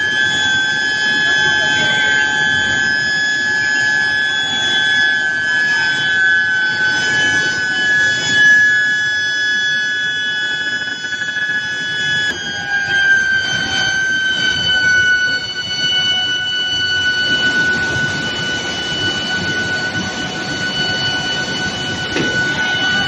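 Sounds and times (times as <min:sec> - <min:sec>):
factory noise: 0:00.0 - 0:23.0
induction furnace coil whine: 0:00.0 - 0:23.0.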